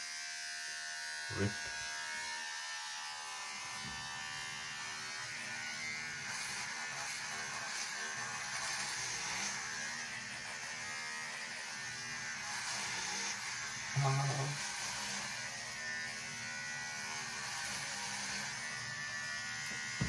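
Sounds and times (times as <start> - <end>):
electric hair trimmer buzzing: 0.0 - 20.0.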